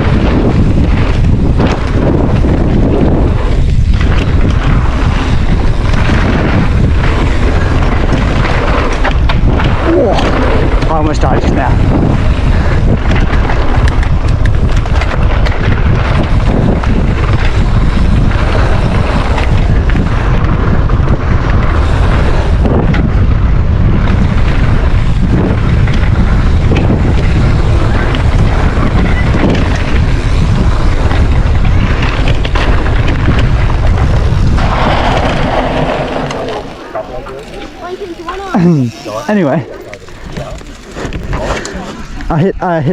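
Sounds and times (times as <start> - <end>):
bike knocking and rattling: 0.0 - 42.9
wind buffeting microphone: 0.0 - 42.9.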